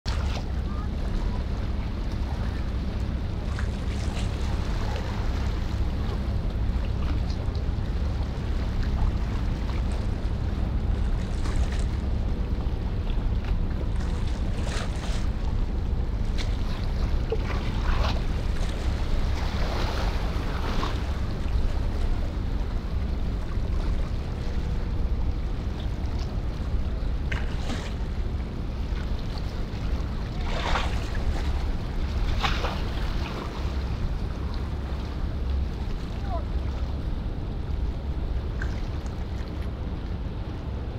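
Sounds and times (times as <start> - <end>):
small waves splashing: 0.1 - 40.9.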